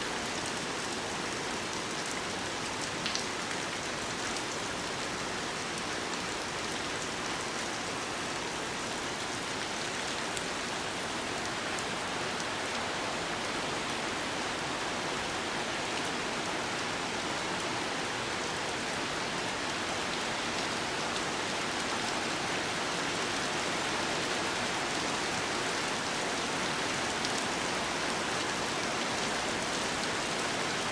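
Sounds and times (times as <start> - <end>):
steady rain hiss: 0.0 - 30.9.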